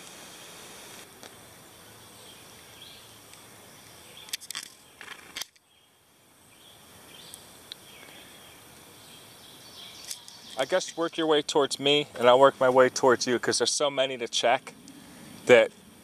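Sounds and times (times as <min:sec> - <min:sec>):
high hiss: 0:00.0 - 0:16.0.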